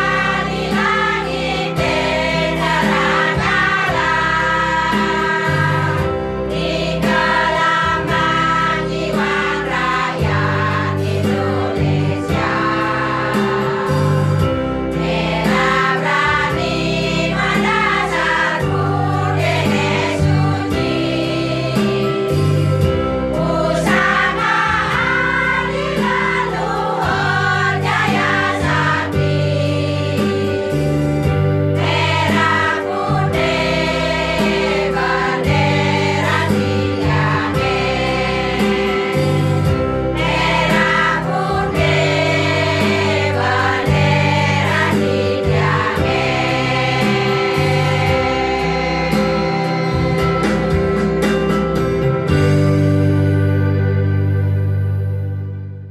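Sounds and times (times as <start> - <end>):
choir singing folksong: 0.0 - 51.3
instrumental accompaniment: 0.0 - 55.9.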